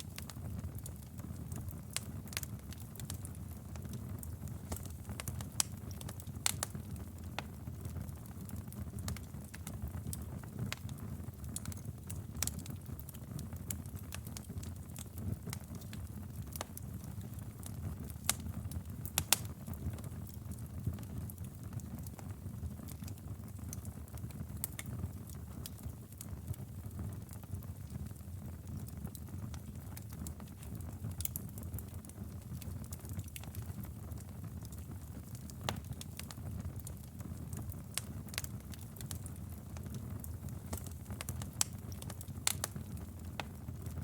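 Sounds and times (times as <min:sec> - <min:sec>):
logs crackling and popping: 0:00.0 - 0:44.0
low rumble of flames: 0:00.0 - 0:44.0.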